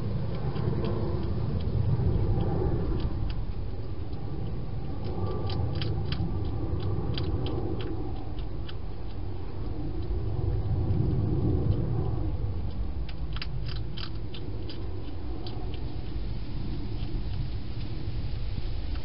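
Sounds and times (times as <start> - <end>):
hedgehog crunching food: 0.0 - 19.0
steady low rumble: 0.0 - 19.0.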